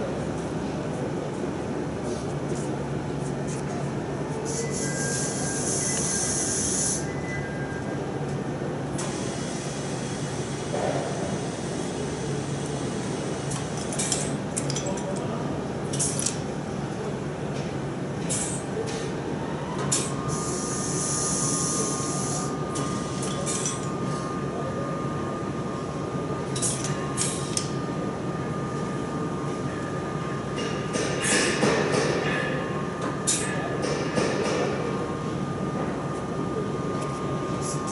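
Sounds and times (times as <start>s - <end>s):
machinery humming: 0.0s - 37.9s.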